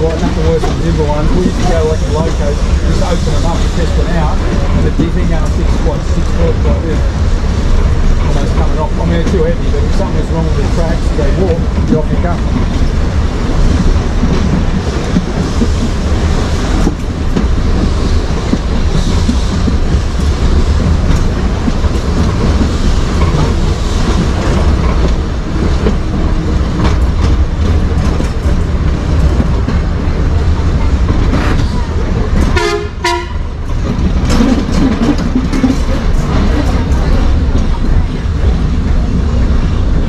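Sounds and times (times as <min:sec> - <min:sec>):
tram wheels rumbling on rails: 0:00.0 - 0:40.0.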